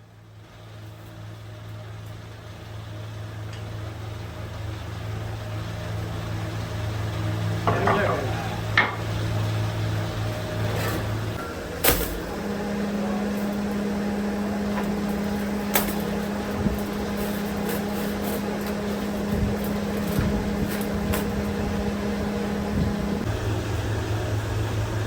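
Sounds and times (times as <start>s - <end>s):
electrical hum: 0.0s - 25.0s
machinery noise: 0.1s - 25.0s.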